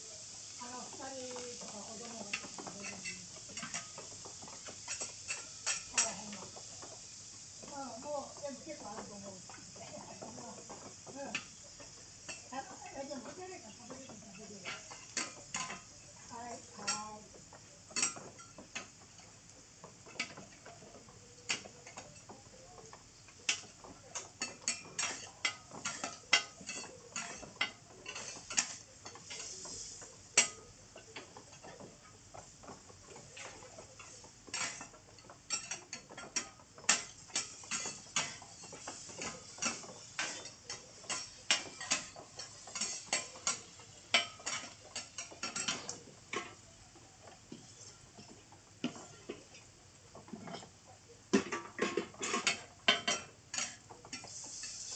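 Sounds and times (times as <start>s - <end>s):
metal spatulas scraping on griddle: 1.3s - 7.1s, 8.7s - 16.0s, 17.9s - 46.6s, 50.2s - 50.7s, 51.4s - 54.9s.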